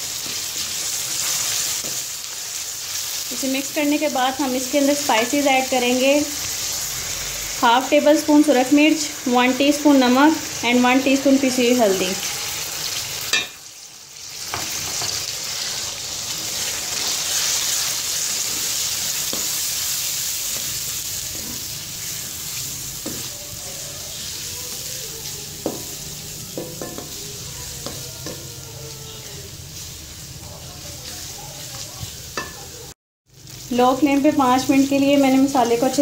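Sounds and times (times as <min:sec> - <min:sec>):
food sizzling in hot oil: 0:00.0 - 0:36.0.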